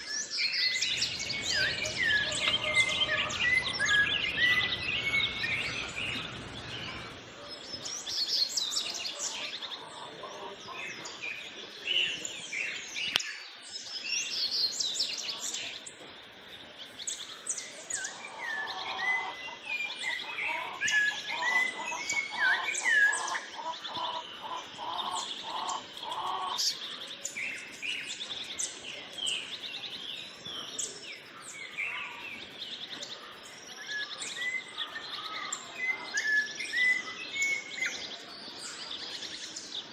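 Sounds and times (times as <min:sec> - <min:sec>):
birds chirping and whistling: 0:00.0 - 0:11.5, 0:16.6 - 0:39.9.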